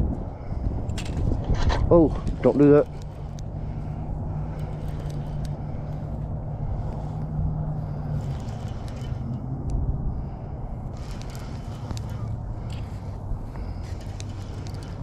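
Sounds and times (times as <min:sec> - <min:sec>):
low rumble: 0:00.0 - 0:15.0
motor running with hum: 0:02.8 - 0:15.0.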